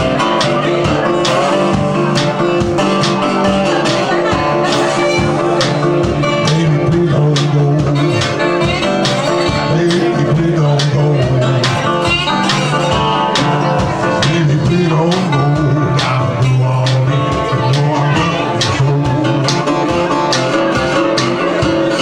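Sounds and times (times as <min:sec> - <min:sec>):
blues band playing: 0:00.0 - 0:22.0
guitar: 0:00.0 - 0:22.0.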